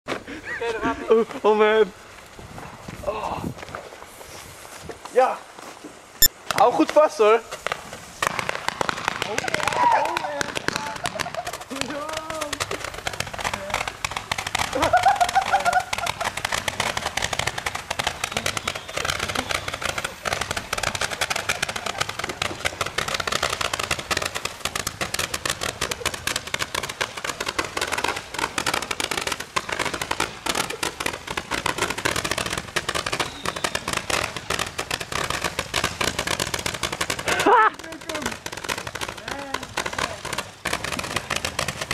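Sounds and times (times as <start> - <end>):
roman candles popping: 7.8 - 41.9.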